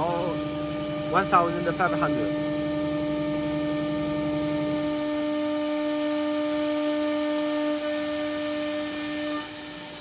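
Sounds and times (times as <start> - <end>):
drilling machine motor whine: 0.0 - 10.0.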